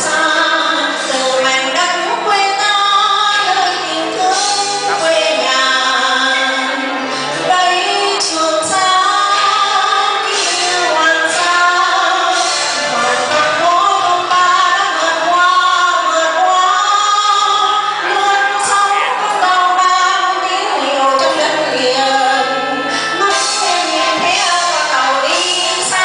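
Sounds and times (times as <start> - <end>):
amplified music accompaniment: 0.0 - 26.0
woman singing: 0.0 - 26.0.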